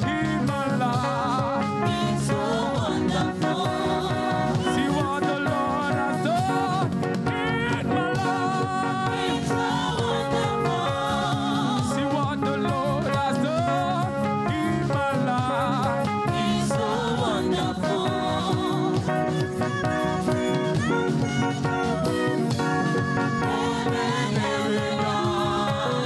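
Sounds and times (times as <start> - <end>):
band accompaniment: 0.0 - 26.0
voices singing praise song: 0.0 - 26.0.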